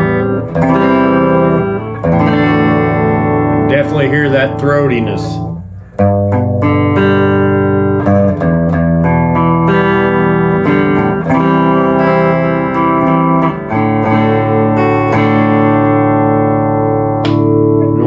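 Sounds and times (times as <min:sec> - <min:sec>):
clean electric guitar: 0:00.0 - 0:18.0.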